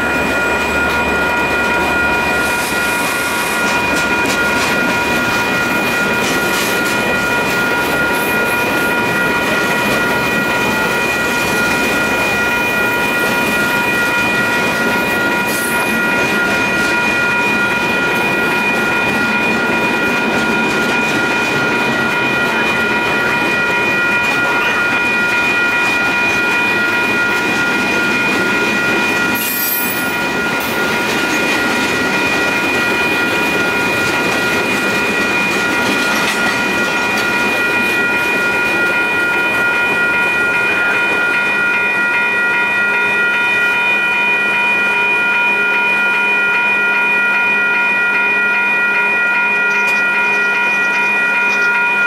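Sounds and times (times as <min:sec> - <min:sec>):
train cars clattering on rails: 0:00.0 - 0:42.4
crossing signal bells ringing: 0:00.0 - 0:52.0.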